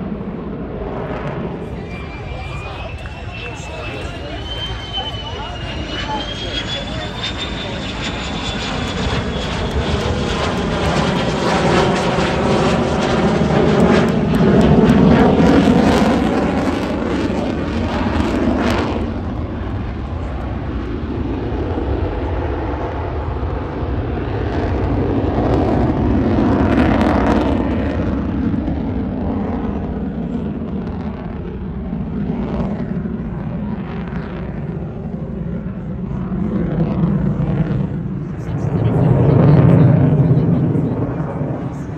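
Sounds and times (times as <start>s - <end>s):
jet engine rumble: 0.0s - 41.9s.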